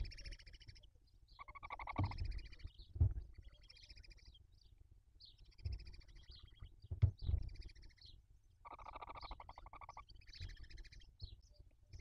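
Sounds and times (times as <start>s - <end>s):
owls chittering: 0.0s - 4.4s, 5.4s - 6.7s, 7.3s - 11.3s.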